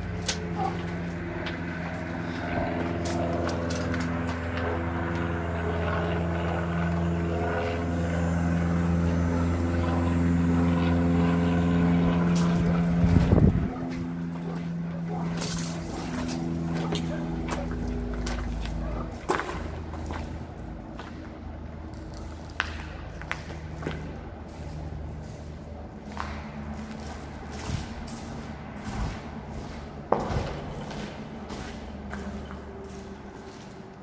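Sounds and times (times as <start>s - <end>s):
machine droning hum: 0.0s - 34.0s.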